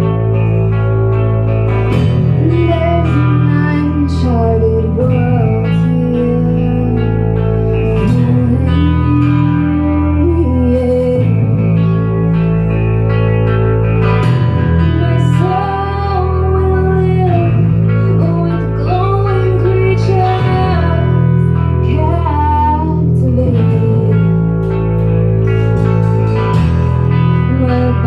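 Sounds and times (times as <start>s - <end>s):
person singing: 0.0s - 13.1s, 14.8s - 28.0s
deep bass notes: 0.0s - 28.0s
guitar: 0.0s - 28.0s.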